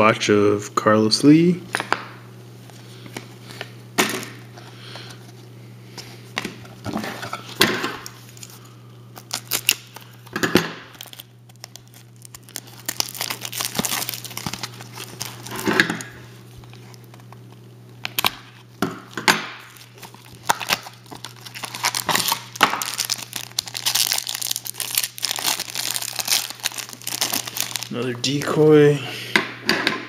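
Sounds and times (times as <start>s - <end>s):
cards and foil wrapper rustling: 2.6s - 28.9s.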